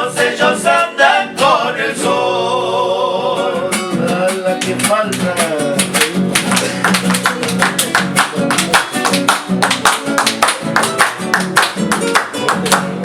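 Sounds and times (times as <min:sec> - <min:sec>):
guitars strumming: 0:00.0 - 0:13.0.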